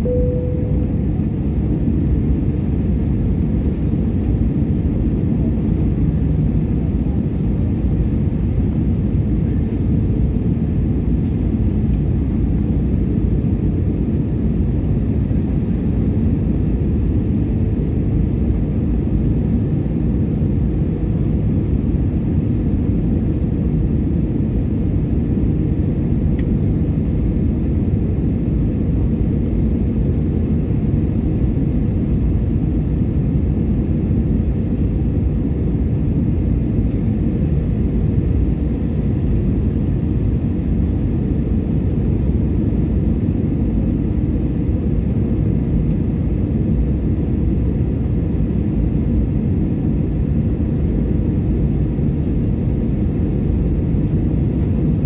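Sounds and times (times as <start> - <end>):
airliner engines rumbling: 0.0 - 55.0.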